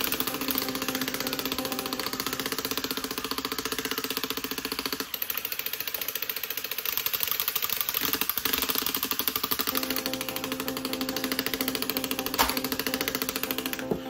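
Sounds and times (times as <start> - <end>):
toy ratchet clicking rapidly: 0.0 - 14.0.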